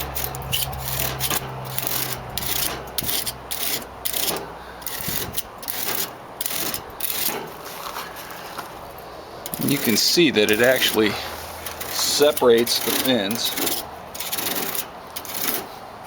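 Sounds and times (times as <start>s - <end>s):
tool scraping metal fins: 0.0s - 7.7s, 9.4s - 15.9s.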